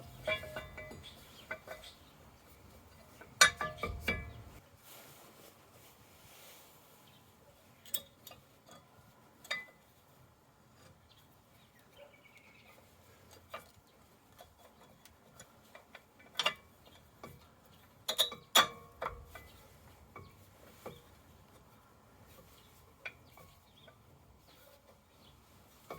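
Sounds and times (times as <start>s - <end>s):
hand tools and metal parts clinking: 0.0s - 4.6s, 7.6s - 25.9s.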